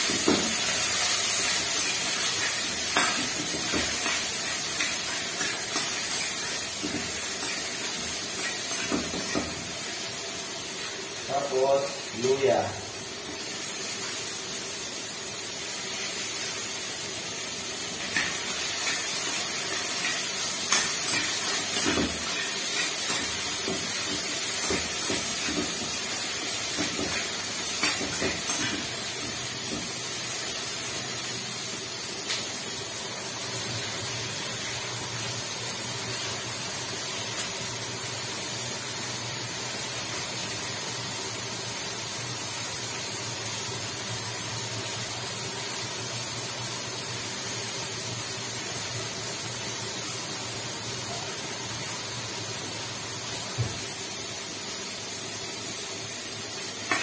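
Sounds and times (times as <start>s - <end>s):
garlic sizzling in hot oil: 0.0s - 57.0s.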